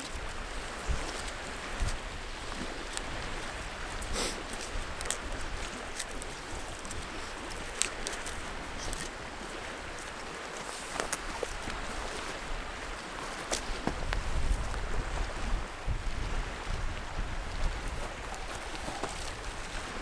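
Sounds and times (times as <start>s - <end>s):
lake water: 0.0s - 20.0s
wind: 0.0s - 20.0s.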